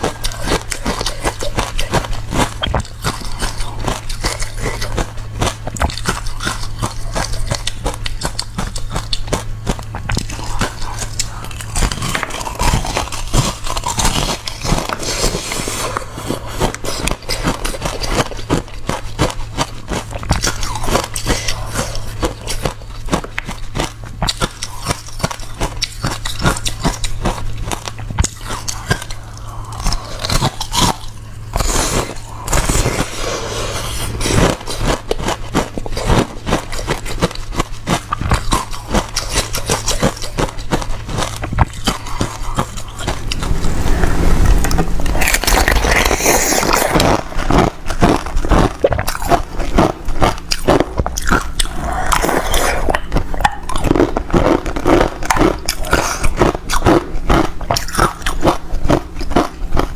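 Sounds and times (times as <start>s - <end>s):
chewing crunchy ice: 0.0s - 59.9s
steady low hum: 0.0s - 59.9s.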